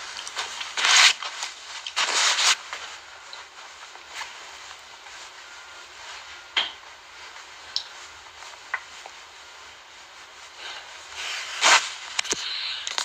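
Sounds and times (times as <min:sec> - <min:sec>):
faint hiss: 0:01.5 - 0:13.0.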